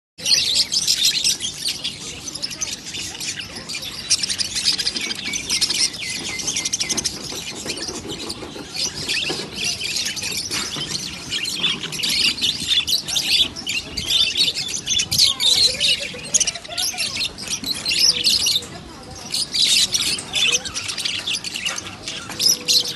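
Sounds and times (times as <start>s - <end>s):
budgerigars chirping and chattering: 0.2s - 22.9s.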